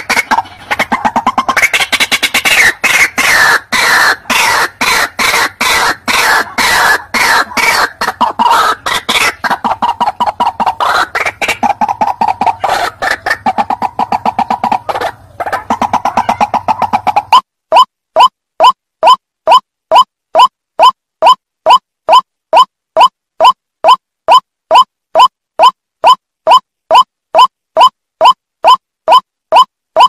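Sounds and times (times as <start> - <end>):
bird calling harsh repeated notes: 0.0 - 30.0.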